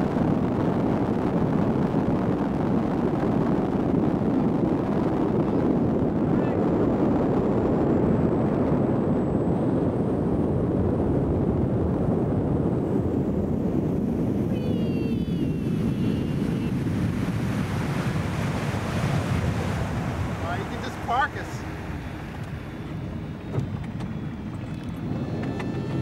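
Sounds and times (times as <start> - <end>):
boat engine: 0.0 - 26.0
water noise: 0.0 - 26.0
wind rushing on microphone: 0.0 - 26.0.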